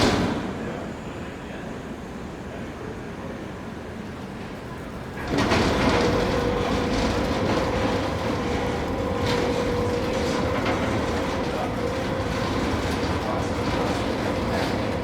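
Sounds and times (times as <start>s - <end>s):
tram rumbling with held tone: 0.0s - 15.0s.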